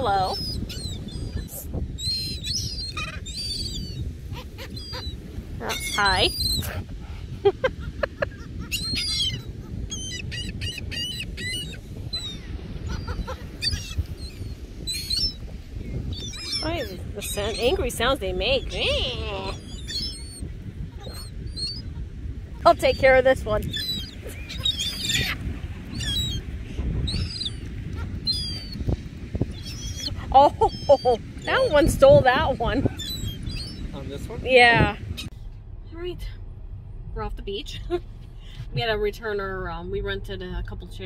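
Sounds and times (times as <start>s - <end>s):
gulls calling: 0.0s - 35.3s
steady low rumble: 0.0s - 41.0s.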